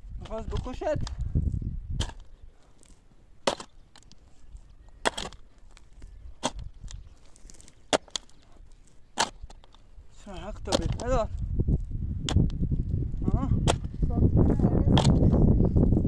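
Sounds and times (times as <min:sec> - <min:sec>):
earth scraping: 0:00.0 - 0:16.0
shovel striking dry soil: 0:00.2 - 0:15.4.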